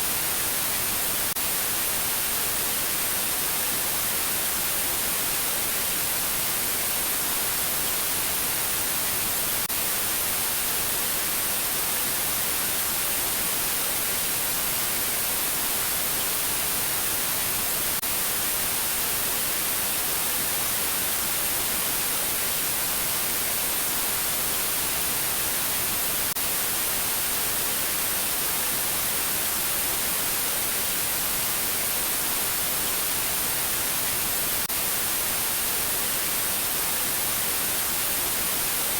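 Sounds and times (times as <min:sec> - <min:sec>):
white noise static hiss: 0:00.0 - 0:38.9.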